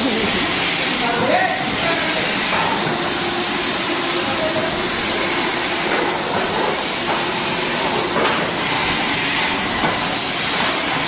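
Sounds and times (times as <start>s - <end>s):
drink filling machine hissing: 0.0s - 11.0s.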